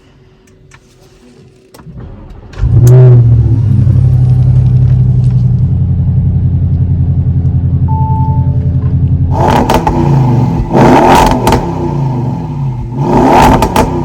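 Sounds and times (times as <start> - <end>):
car engine starting and idling: 1.7 - 14.0.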